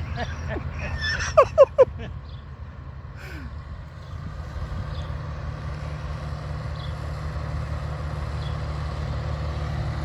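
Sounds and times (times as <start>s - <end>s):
tractor engine rumbling: 0.0s - 10.0s.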